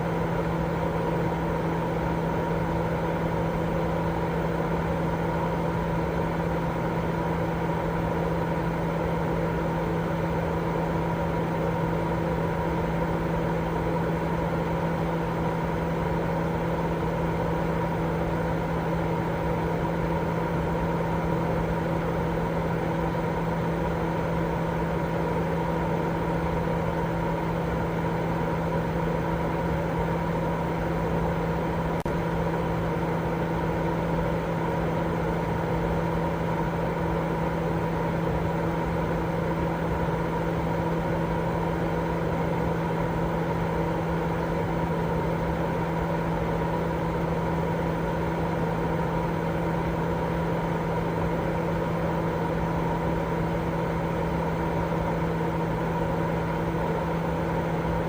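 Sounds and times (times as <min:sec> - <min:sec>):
steady white noise: 0:00.0 - 0:58.0.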